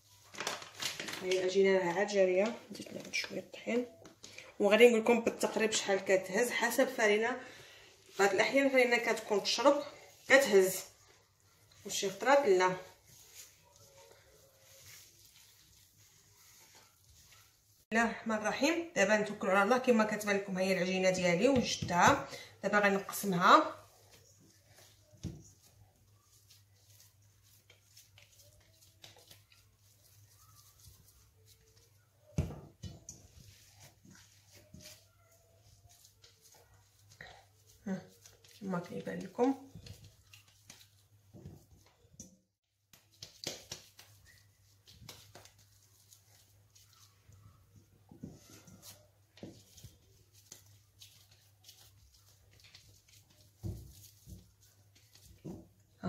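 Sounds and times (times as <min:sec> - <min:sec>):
dough handled in metal bowl: 0:08.1 - 0:56.0.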